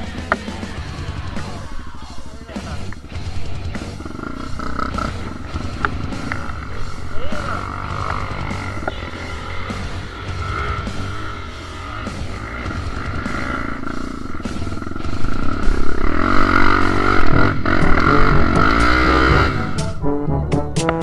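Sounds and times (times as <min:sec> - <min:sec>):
background music: 0:00.0 - 0:21.0
dirt bike engine revving: 0:00.0 - 0:21.0.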